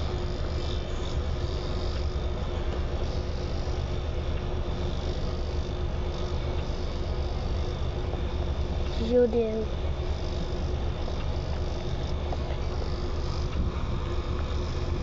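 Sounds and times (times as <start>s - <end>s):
faint constant tone: 0.0s - 15.0s
mechanical hum and rumble: 0.0s - 15.0s.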